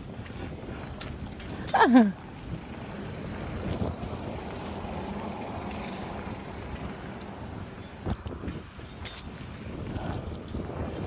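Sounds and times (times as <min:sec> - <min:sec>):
road noise: 0:00.0 - 0:11.0
wind buffeting microphone: 0:00.0 - 0:11.0.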